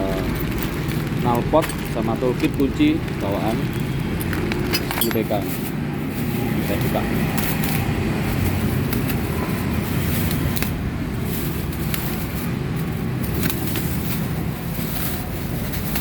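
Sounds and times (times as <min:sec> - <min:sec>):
packaging clicks and knocks: 0:00.0 - 0:16.0.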